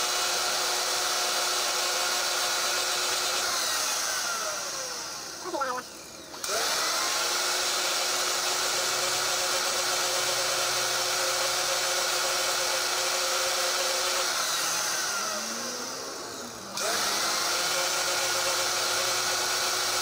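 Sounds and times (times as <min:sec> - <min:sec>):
drill running: 0:00.0 - 0:20.0
angle grinder grinding metal: 0:01.4 - 0:20.0.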